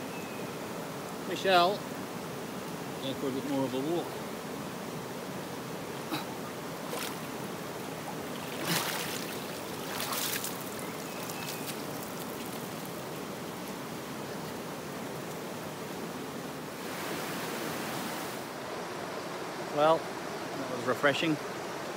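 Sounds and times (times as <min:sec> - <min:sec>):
running water rushing: 0:00.0 - 0:21.9.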